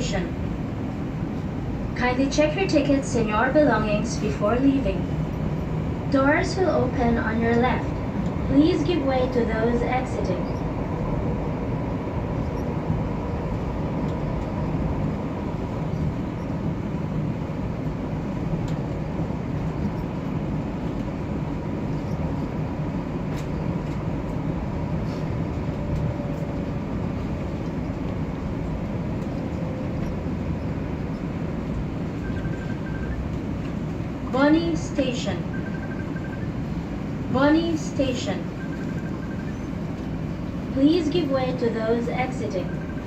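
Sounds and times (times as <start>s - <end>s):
faint steady hum: 0.0s - 43.0s
train wheels rumbling on rails: 0.0s - 43.0s.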